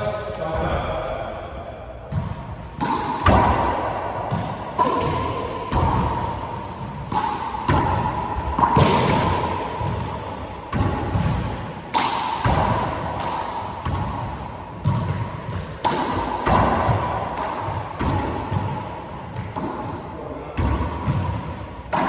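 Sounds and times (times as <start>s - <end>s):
handball hits echoing off walls: 1.9s - 22.0s.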